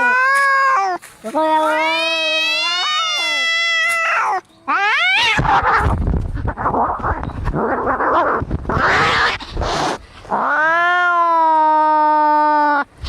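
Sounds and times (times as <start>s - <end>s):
cat yowling: 0.0s - 12.8s
cats screeching and hissing: 0.0s - 12.8s.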